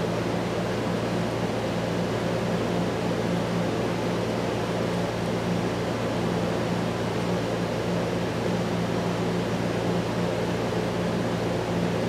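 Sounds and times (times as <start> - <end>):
fan-like machinery hum: 0.0 - 12.0.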